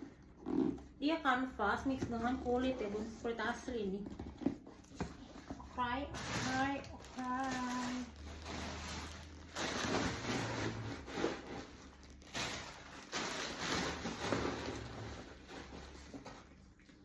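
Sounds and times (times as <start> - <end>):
handbag rustling and scraping: 2.2 - 16.2.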